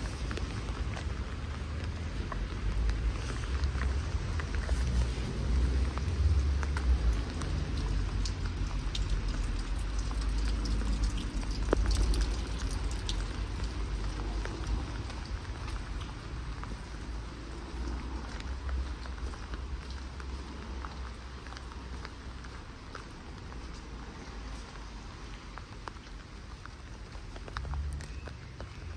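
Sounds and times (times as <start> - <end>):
light rain pattering on pavement: 0.0 - 28.9.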